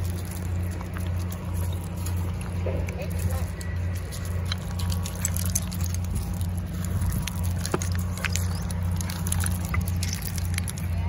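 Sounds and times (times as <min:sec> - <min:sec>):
dog paws scrabbling over stones: 0:00.0 - 0:11.0
low rumble: 0:00.0 - 0:11.0.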